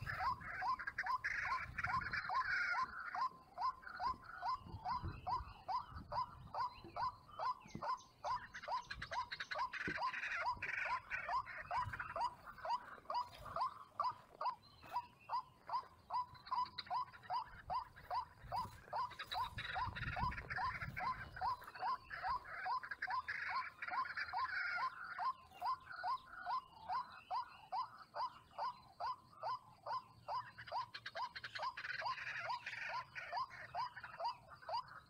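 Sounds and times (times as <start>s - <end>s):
waterhen calling: 0.0s - 35.0s.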